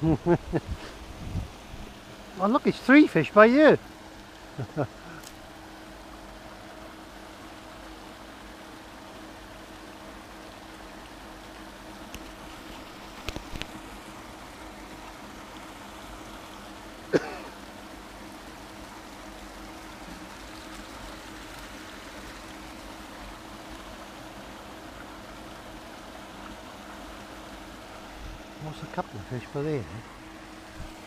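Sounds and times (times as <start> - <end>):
faint steady hum: 0.0 - 31.0
trickling water: 0.0 - 31.0.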